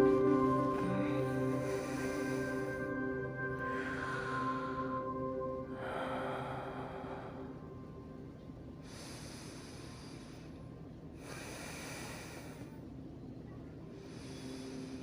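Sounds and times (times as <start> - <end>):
person breathing slowly: 0.2 - 7.9, 8.8 - 12.9, 14.0 - 15.0.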